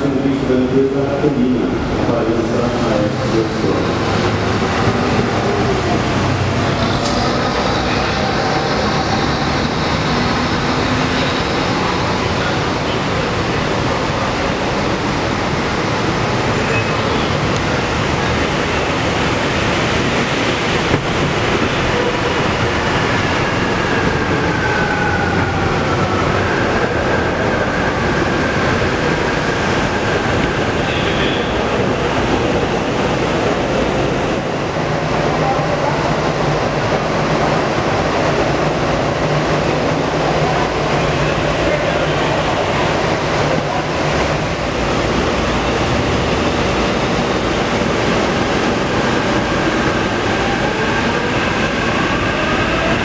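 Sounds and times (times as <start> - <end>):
monorail train running: 0.0 - 53.0.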